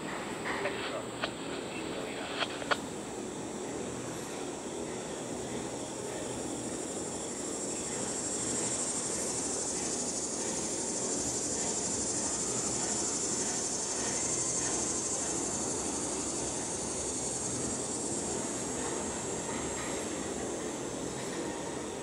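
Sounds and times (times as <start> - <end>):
high shrill hiss: 0.0 - 22.0
train wheels rumbling on rail: 0.0 - 22.0.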